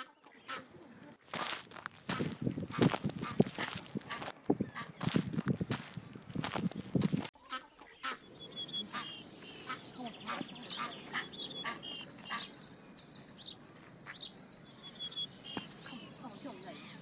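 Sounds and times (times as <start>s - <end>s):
birds chirping and trilling: 1.3s - 17.0s.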